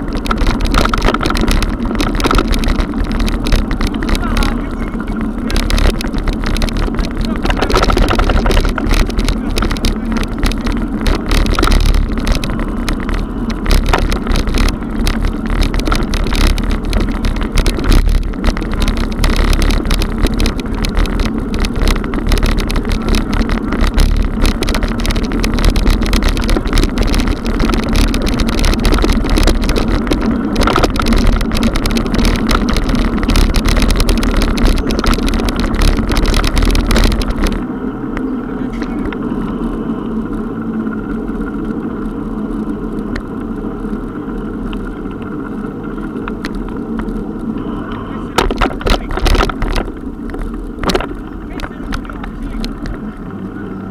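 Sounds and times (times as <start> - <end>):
bike tyres rumbling over cobblestones: 0.0 - 53.9.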